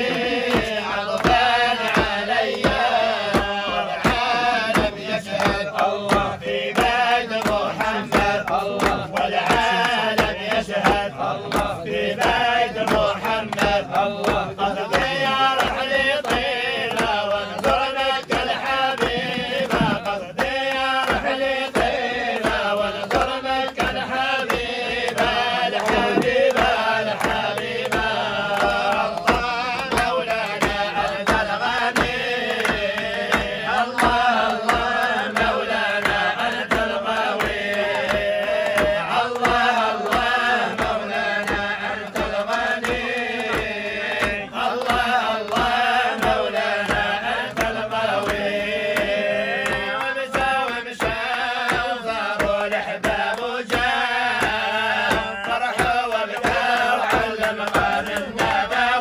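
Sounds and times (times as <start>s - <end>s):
hand claps: 0.0s - 59.0s
men chanting together: 0.0s - 59.0s.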